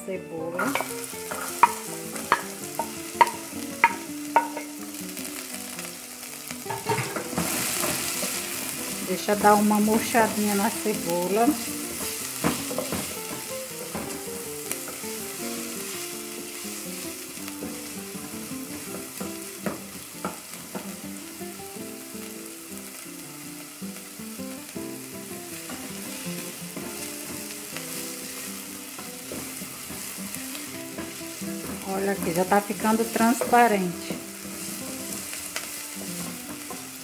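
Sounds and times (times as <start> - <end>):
onion sizzling in oil: 0.0 - 37.0.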